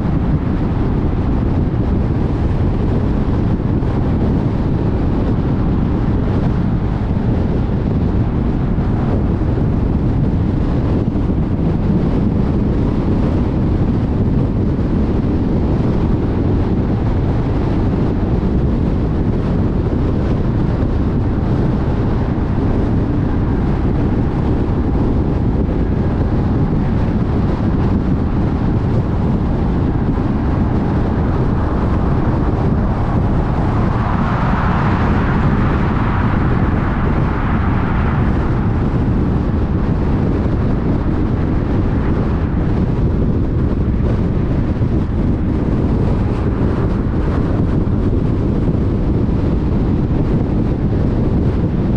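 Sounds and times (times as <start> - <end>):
tyres rumbling on road: 0.0 - 51.9
wind noise: 0.0 - 51.9.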